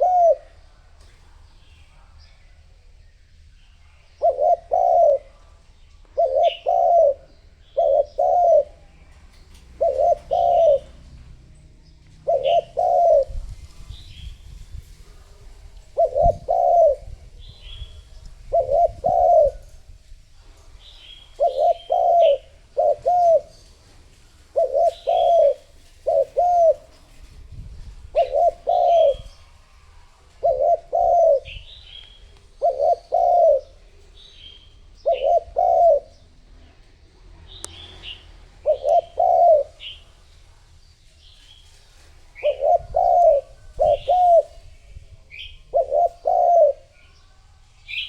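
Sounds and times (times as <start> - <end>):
dove cooing: 0.0 - 1.0, 4.0 - 20.1, 20.8 - 36.9, 37.5 - 40.3, 41.6 - 48.0
small birds chirping: 0.0 - 48.0.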